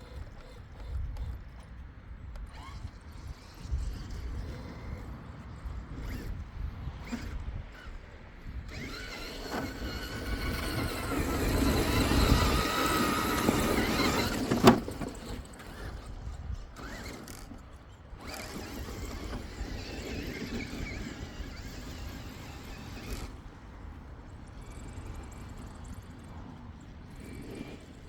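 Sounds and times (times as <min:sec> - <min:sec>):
rc car motor whining: 0:00.0 - 0:28.0.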